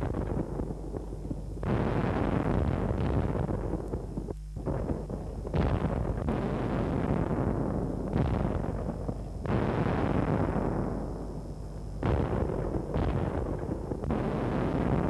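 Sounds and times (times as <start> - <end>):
rumbling explosion booms: 0.0 - 15.0.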